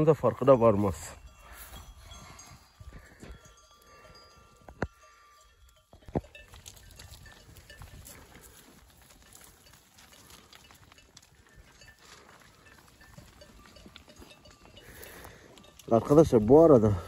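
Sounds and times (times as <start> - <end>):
bells clinking: 0.0 - 17.0
faint flock of sheep: 0.6 - 17.0.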